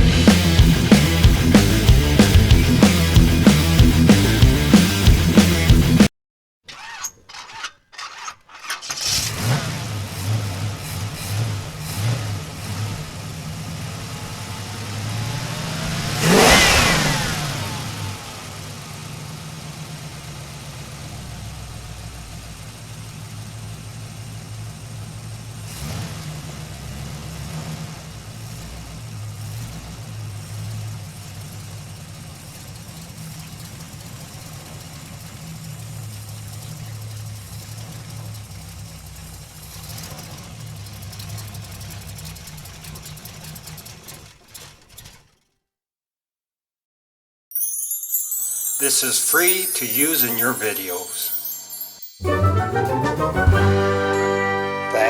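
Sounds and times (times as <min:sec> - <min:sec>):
truck engine starting and revving: 0:00.0 - 0:06.1, 0:07.4 - 0:45.4, 0:52.2 - 0:55.0.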